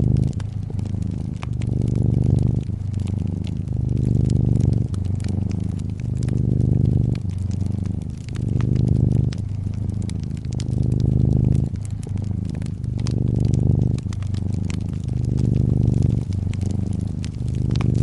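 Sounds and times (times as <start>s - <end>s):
cat purring: 0.0s - 18.0s
fireplace crackling: 0.0s - 18.0s.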